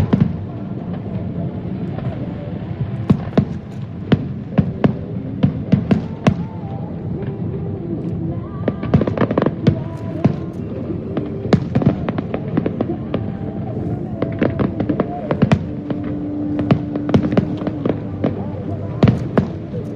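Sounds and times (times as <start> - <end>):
low continuous rumble: 0.0 - 19.9.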